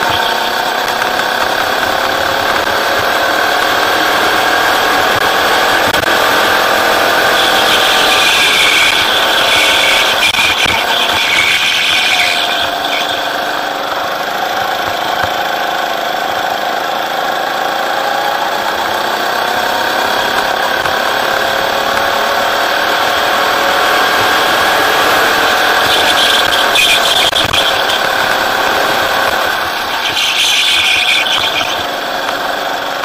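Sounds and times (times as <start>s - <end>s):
go-kart engine running: 0.0s - 33.0s.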